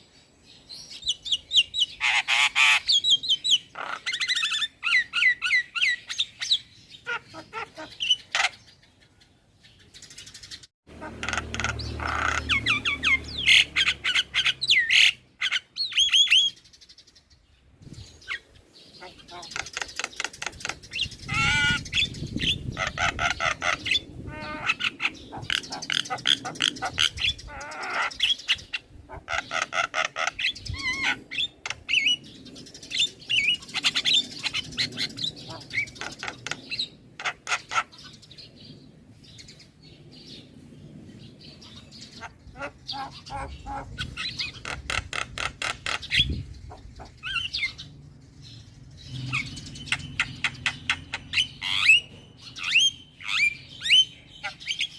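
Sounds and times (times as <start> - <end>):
myna bird singing and chattering: 0.5 - 54.9.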